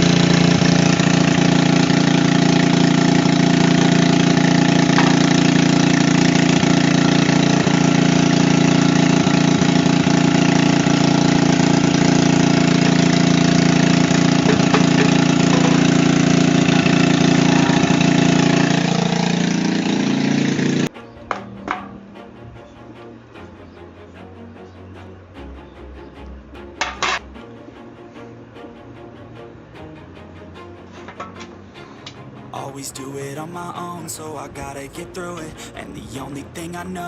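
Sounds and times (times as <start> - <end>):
small generator engine running: 0.0 - 24.0, 25.2 - 37.0.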